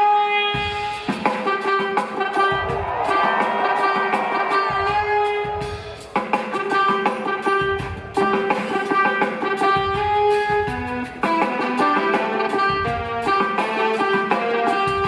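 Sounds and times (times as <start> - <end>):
drums: 0.0 - 15.0
jazz fusion band held chords: 0.0 - 15.0.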